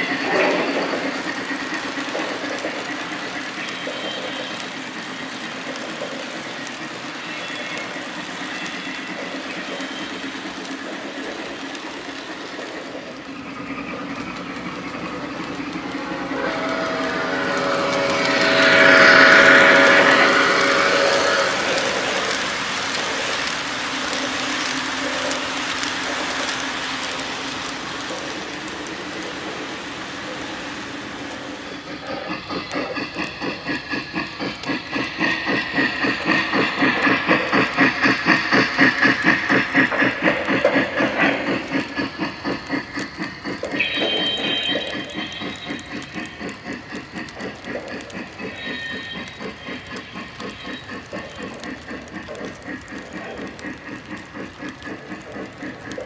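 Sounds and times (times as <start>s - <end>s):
rhythmic steam chuffing: 0.0s - 56.0s
toy train steam hiss: 0.0s - 56.0s.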